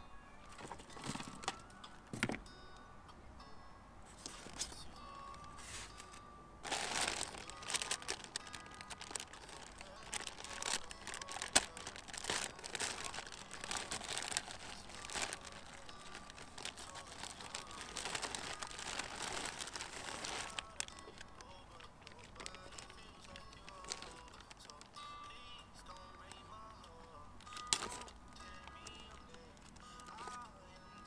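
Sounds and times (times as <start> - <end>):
plastic bags and foil crinkling: 0.4 - 2.4, 4.1 - 25.2, 27.4 - 30.4.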